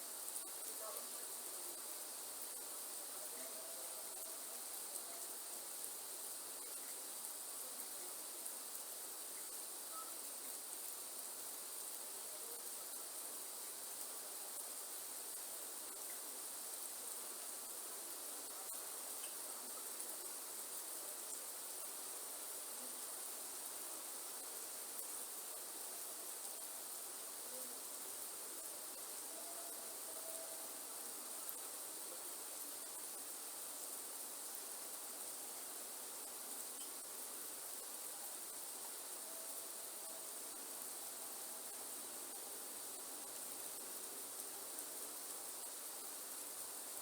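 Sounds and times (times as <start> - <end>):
soft forest hiss: 0.0 - 47.0
insects trilling: 0.1 - 47.0.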